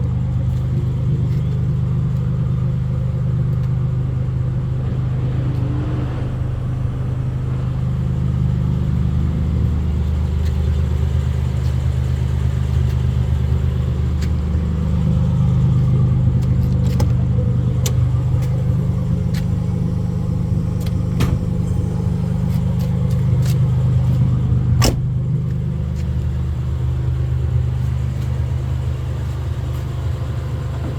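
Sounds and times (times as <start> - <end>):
car engine misfiring: 0.0 - 30.9.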